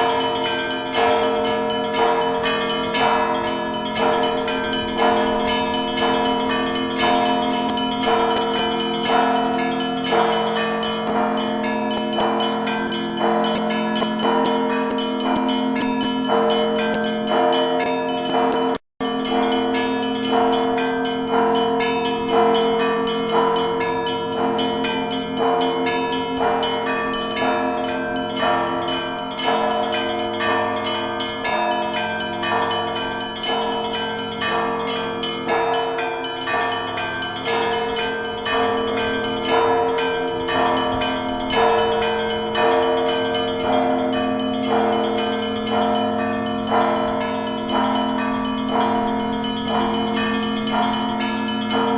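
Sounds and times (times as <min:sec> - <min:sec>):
church bells ringing: 0:00.0 - 0:51.9
low hum of large bells: 0:00.0 - 0:51.9.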